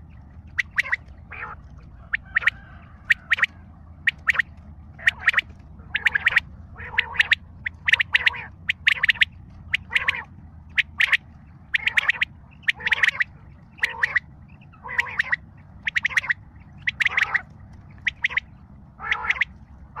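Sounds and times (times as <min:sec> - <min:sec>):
harsh squawking bird calls: 0:00.0 - 0:20.0.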